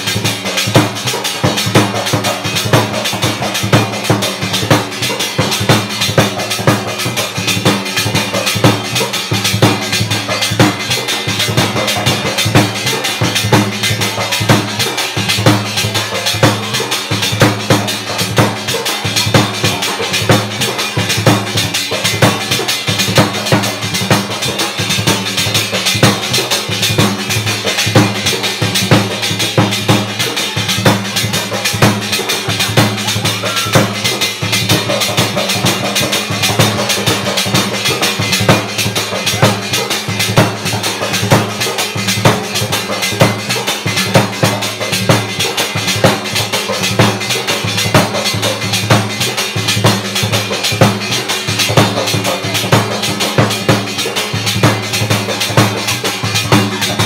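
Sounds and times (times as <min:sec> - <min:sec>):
dhol drum beaten with a stick: 0:00.0 - 0:57.0.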